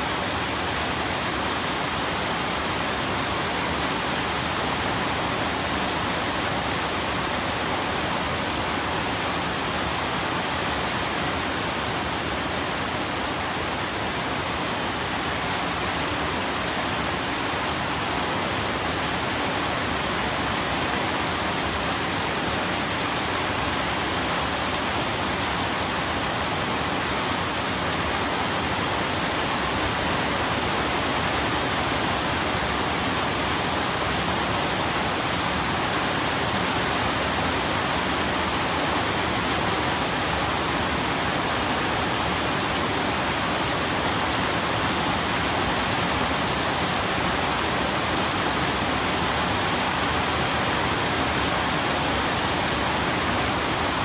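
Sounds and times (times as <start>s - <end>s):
steady heavy rain: 0.0s - 54.0s.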